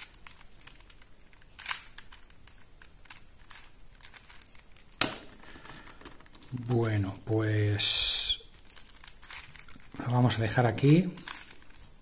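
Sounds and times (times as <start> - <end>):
puzzle cube plastic clicks: 0.0 - 6.5, 7.8 - 12.0.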